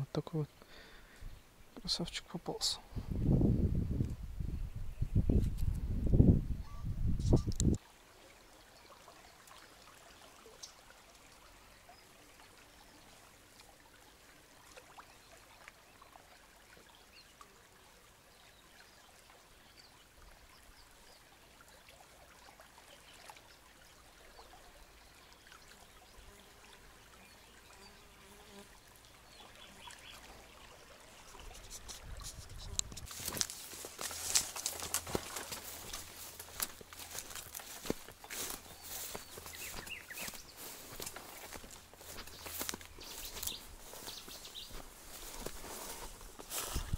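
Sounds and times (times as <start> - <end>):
small river flowing: 7.8 - 46.9.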